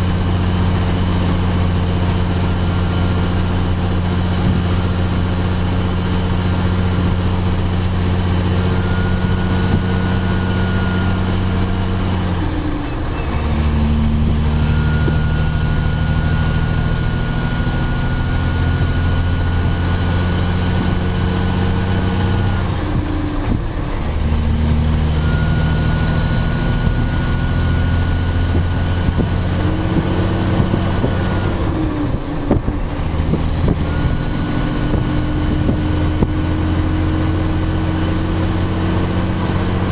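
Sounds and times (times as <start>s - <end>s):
heavy diesel truck engine: 0.0s - 39.9s
high whine: 0.0s - 39.9s.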